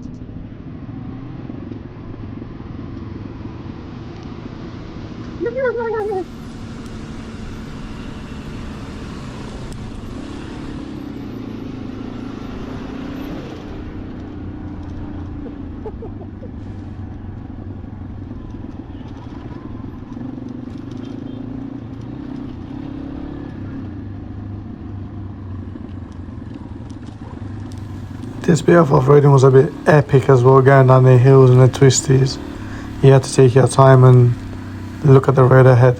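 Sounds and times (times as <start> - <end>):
motorcycle engine running: 3.8 - 35.9.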